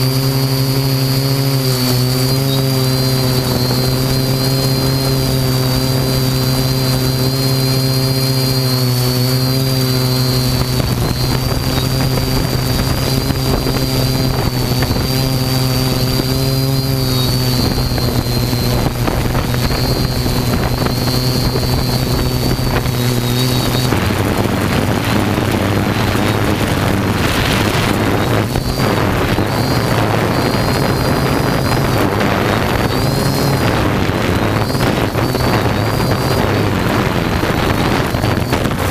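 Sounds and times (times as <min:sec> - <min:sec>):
quadcopter motors humming: 0:00.0 - 0:38.9
wind noise on microphone: 0:00.0 - 0:38.9.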